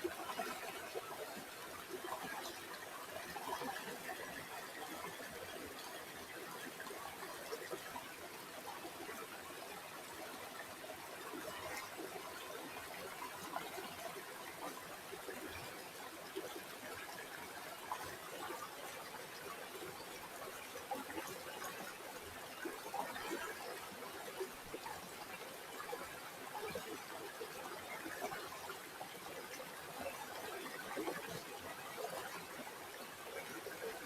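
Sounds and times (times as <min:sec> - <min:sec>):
river water babbling: 0:00.0 - 0:34.0.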